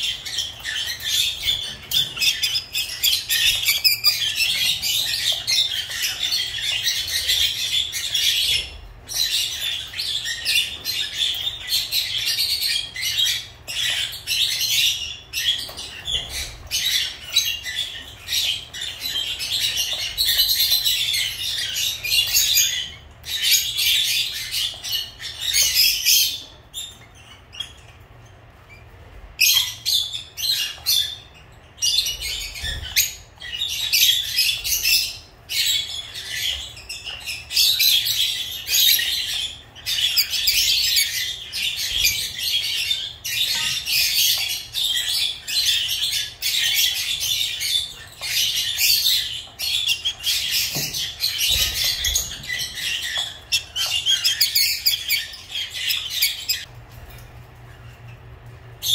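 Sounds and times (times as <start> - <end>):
lovebirds chirping and squawking: 0.0 - 58.9.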